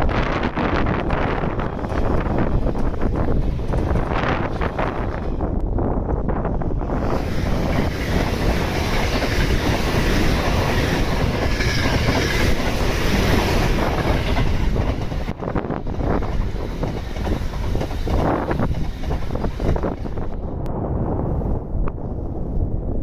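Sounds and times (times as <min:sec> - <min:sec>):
rhythmic clatter over rail joints: 0:00.0 - 0:20.6
train wheels rumbling on rail: 0:00.0 - 0:22.9.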